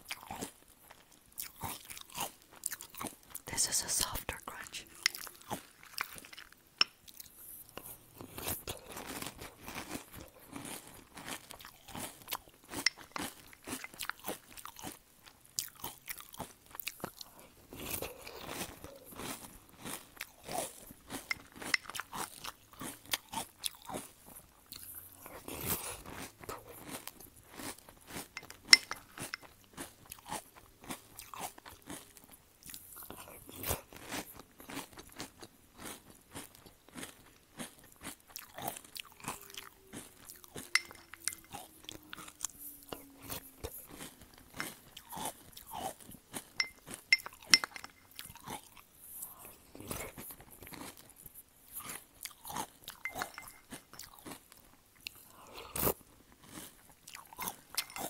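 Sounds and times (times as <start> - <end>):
crunching cereal chewing: 0.0 - 3.4, 4.8 - 58.0.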